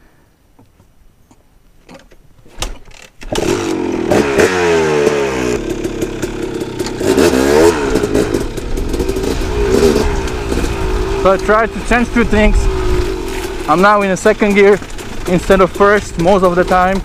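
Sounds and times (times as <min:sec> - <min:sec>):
dirt bike engine revving: 0:03.2 - 0:17.0.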